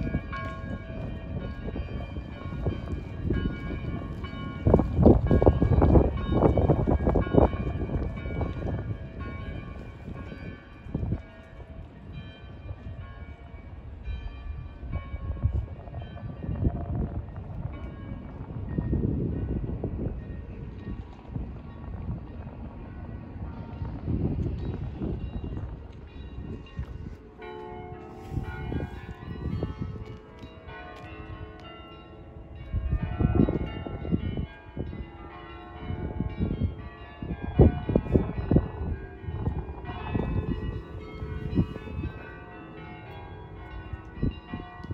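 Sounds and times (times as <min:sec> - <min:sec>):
church bells ringing: 0:00.0 - 0:44.9
wind rumble on microphone: 0:00.0 - 0:44.9.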